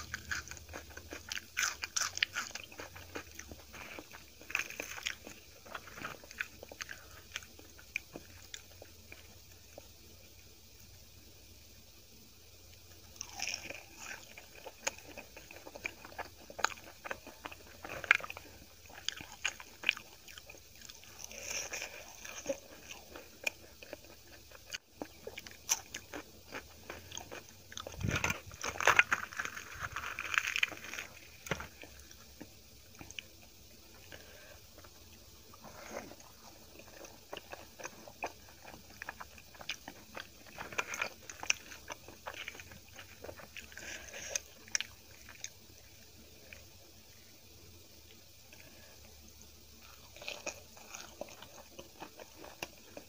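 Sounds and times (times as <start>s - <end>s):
person chewing food: 0.0s - 10.0s, 13.1s - 46.8s, 49.7s - 53.0s.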